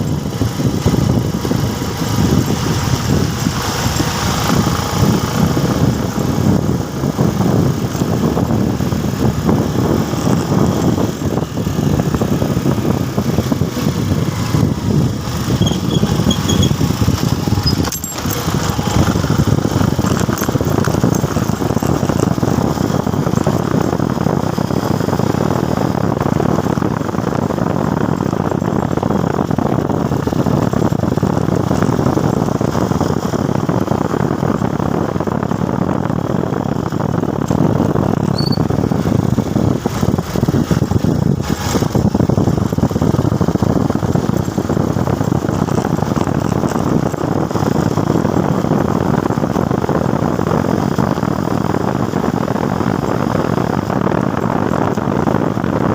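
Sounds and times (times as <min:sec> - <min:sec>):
motorcycle engine and road noise: 0:00.0 - 0:55.9.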